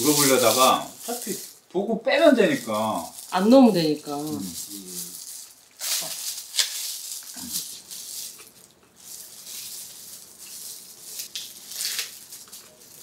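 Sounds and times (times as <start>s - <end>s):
food wrapping rustling: 0.0s - 13.0s.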